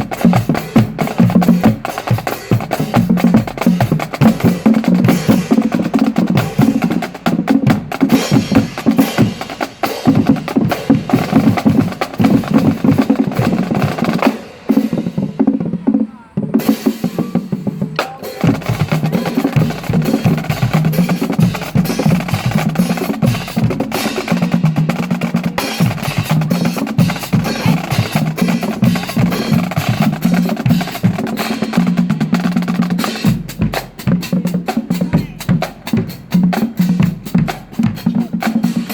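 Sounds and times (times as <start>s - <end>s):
drumline snare rolls: 0.0s - 38.9s
pitched drums: 0.0s - 38.9s.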